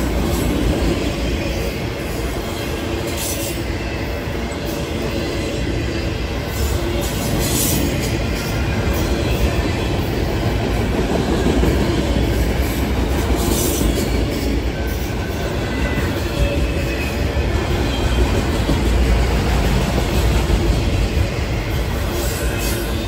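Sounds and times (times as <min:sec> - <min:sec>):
freight cars rolling on rails: 0:00.0 - 0:23.0.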